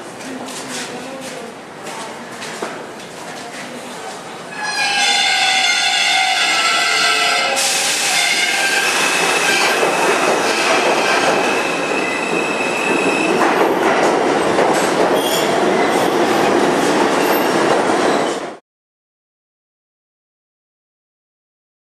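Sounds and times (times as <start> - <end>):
subway train wheel and rail noise: 0.0 - 18.6.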